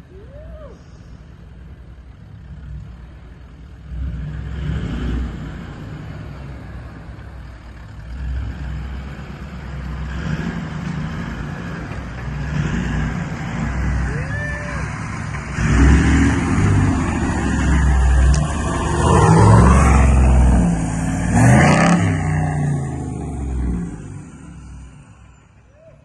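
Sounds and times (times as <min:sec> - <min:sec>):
vehicle engine revving: 0:02.4 - 0:25.4.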